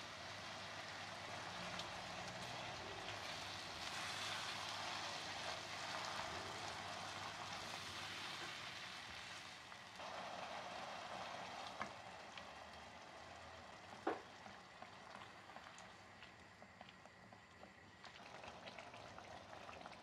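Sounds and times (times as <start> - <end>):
food sizzling in hot oil: 0.0 - 17.2.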